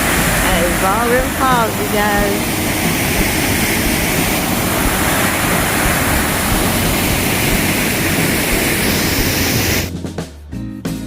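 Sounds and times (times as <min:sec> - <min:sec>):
waterfall roaring: 0:00.0 - 0:09.9.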